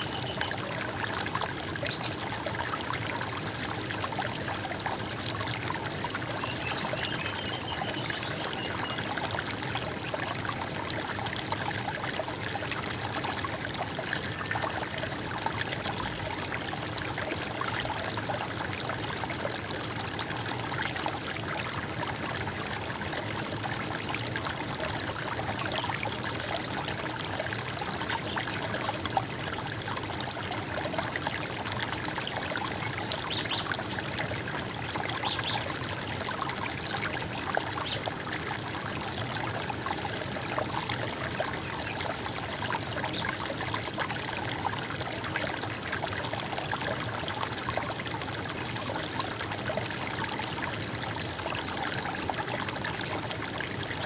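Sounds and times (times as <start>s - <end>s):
stream trickling and splashing: 0.0s - 54.0s.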